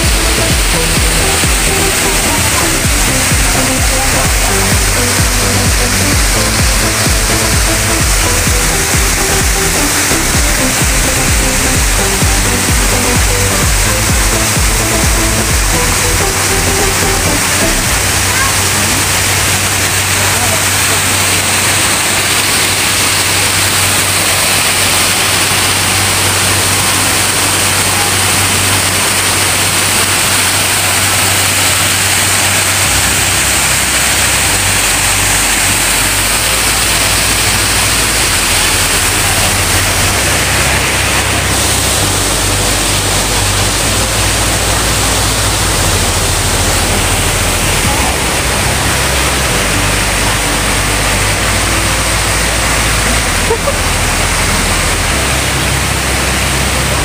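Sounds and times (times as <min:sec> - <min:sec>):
waterfall pouring into pond: 0:00.0 - 0:57.0.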